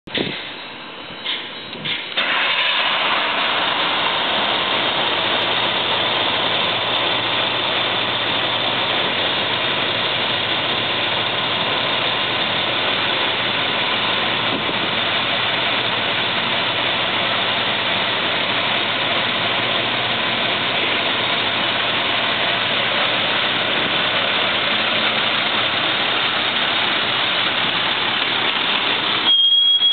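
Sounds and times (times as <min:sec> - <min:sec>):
diesel engine starting and running: 0:00.1 - 0:29.9.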